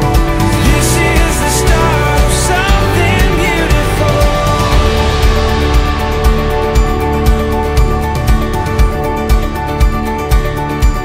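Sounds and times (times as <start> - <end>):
drum beat: 0.0 - 10.6
held chords: 0.0 - 11.0.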